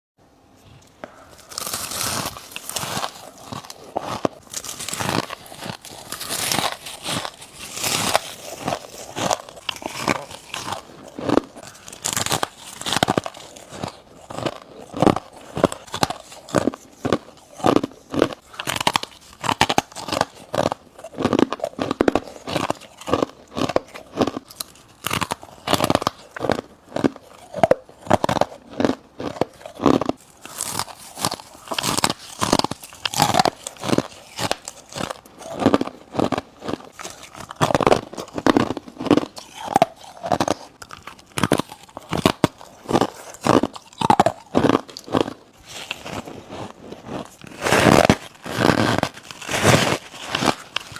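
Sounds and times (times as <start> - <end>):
crunching ice bites: 1.4 - 50.9.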